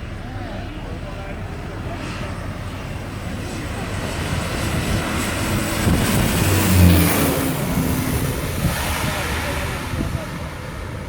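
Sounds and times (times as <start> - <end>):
propeller airplane passing overhead: 0.0 - 11.0.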